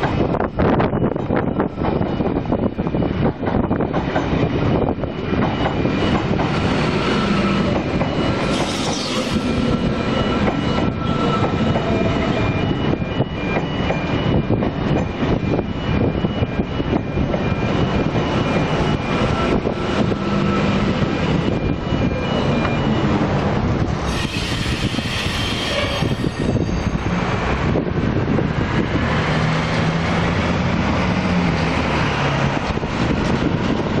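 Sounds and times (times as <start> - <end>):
train wheels squealing on rails: 0.0 - 34.0.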